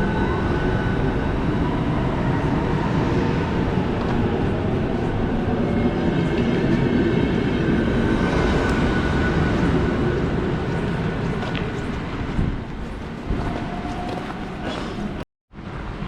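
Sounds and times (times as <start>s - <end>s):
rail vehicle rumble: 0.0s - 16.0s.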